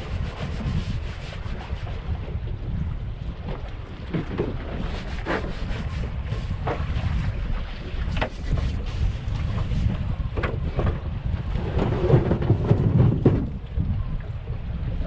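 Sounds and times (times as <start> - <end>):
choppy sea: 0.0 - 15.0
waves slapping against hull: 0.0 - 15.0
wind buffeting microphone: 0.0 - 15.0.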